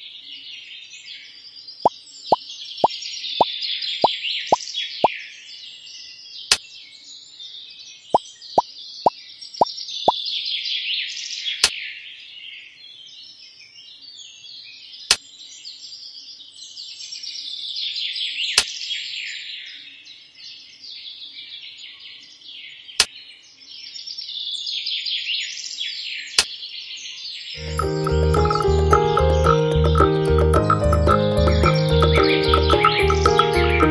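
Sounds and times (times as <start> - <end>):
small birds chirping: 0.2 - 33.9.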